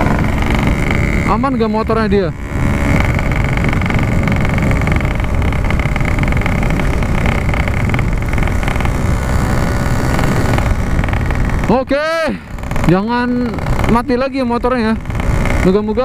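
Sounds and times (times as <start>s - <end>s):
two-stroke motorcycle engine running: 0.0s - 16.0s
wind rushing over microphone: 0.0s - 16.0s.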